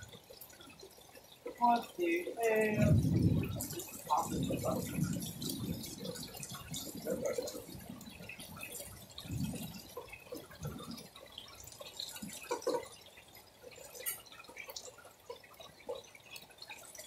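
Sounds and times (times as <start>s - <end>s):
drips and splashes: 0.0s - 17.0s
gentle rain falling: 0.0s - 17.0s.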